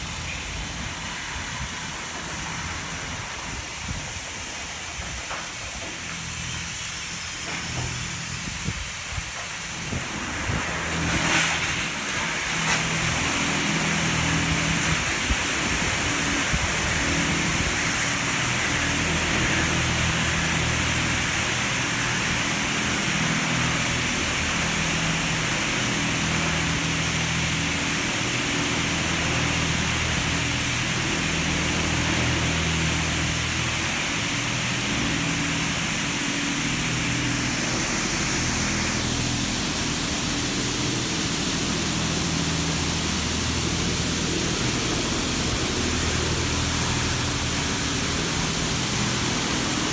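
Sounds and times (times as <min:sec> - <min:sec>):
high-pressure water spray hiss: 0:00.0 - 0:49.9.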